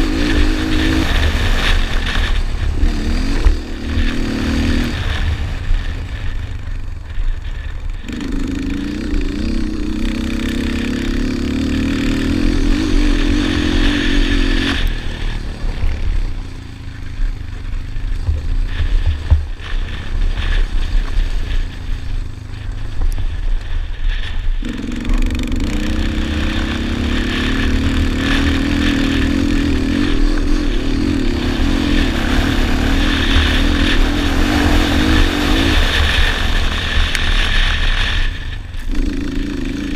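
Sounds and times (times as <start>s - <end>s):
quad engine revving: 0.0s - 39.9s
wind buffeting microphone: 0.0s - 39.9s.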